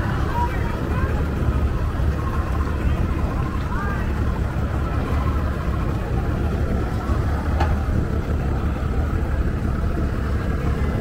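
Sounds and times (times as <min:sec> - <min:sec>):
outboard engines rumbling: 0:00.0 - 0:11.0.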